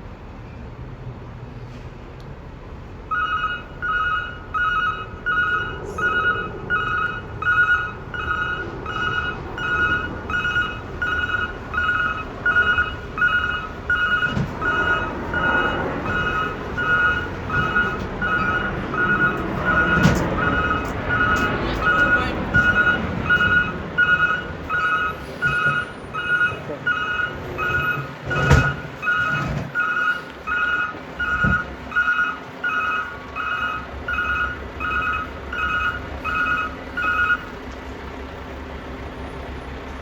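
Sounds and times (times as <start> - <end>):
truck engine running: 2.3 - 40.0
truck backup alarm beeping: 3.0 - 37.7.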